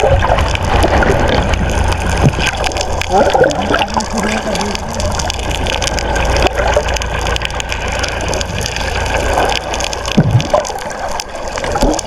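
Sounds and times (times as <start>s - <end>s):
low rumble: 0.0s - 12.0s
water splashing and gushing: 0.0s - 12.0s.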